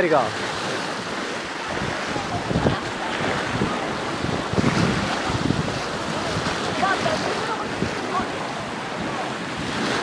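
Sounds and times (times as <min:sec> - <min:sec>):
sea water washing over rocks: 0:00.0 - 0:10.0
wind buffeting microphone: 0:00.5 - 0:10.0.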